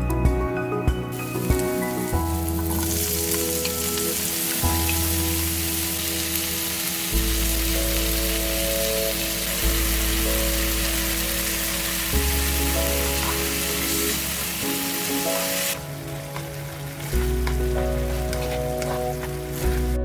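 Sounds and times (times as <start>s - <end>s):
music of sustained chords: 0.0s - 20.0s
food sizzling in oil: 1.1s - 20.0s.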